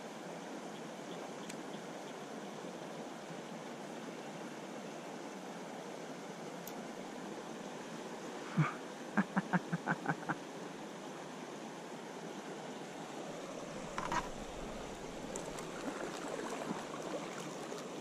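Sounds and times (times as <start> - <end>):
river water rushing: 1.8 - 18.0.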